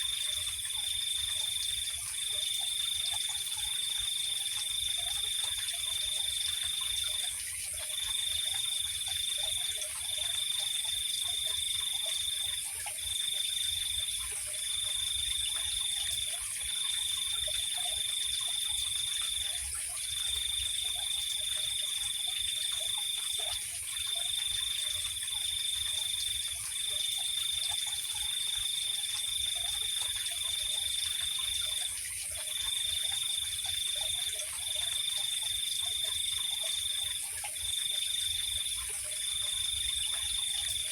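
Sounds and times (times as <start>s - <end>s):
cricket trilling: 0.0s - 40.9s.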